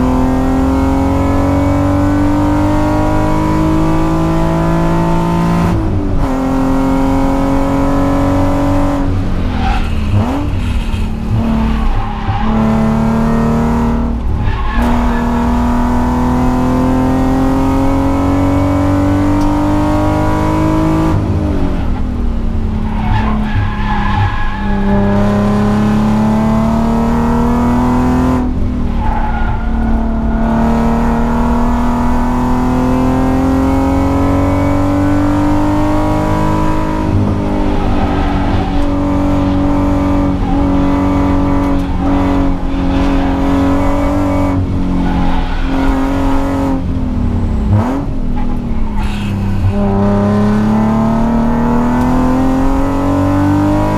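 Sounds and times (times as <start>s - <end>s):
car engine revving hard: 0.0s - 22.0s, 23.0s - 53.9s.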